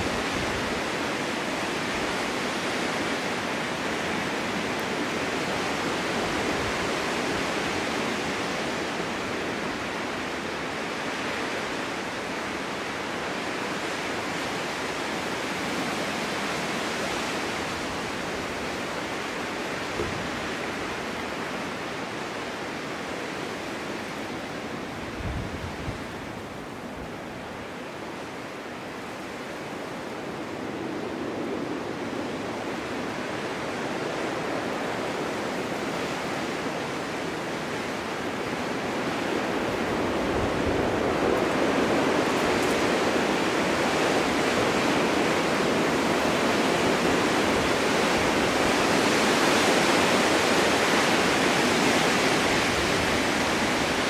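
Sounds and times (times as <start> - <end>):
low thumps of wind buffeting: 0.0 - 54.0
snowstorm wind blowing: 0.0 - 54.0.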